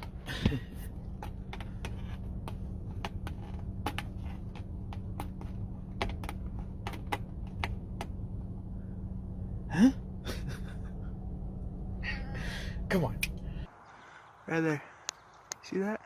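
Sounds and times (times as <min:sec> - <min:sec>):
steady low hum: 0:00.0 - 0:13.7.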